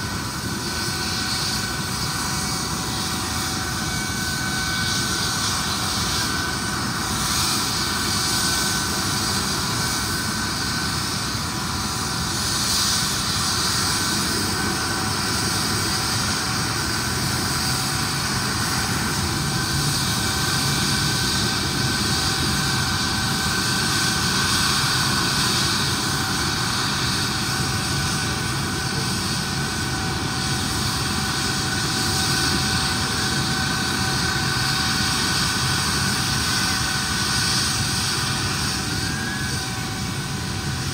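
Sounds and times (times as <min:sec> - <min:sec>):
helicopter turbine engines whining: 0:00.0 - 0:40.9.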